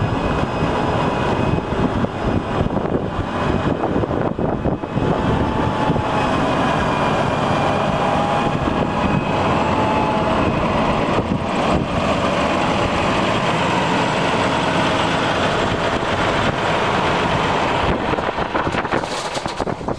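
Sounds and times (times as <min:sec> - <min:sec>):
tractor diesel engine idling: 0:00.0 - 0:19.9.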